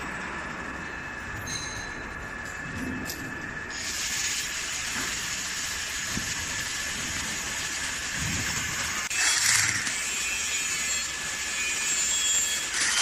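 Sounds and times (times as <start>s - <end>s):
hissing workshop noise: 0.0s - 13.0s
thin high whine: 0.0s - 13.0s.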